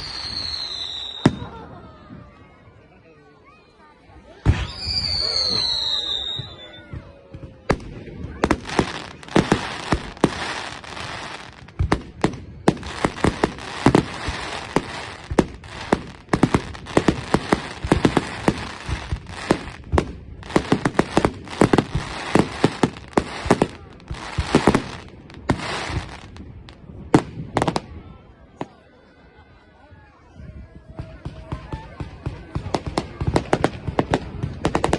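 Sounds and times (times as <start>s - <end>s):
fireworks bangs and crackles: 0.0s - 2.8s, 4.3s - 28.9s, 30.5s - 34.9s.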